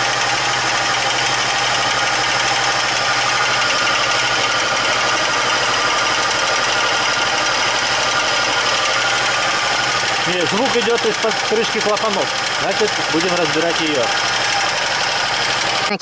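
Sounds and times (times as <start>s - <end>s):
car engine idling with knock: 0.0s - 16.0s.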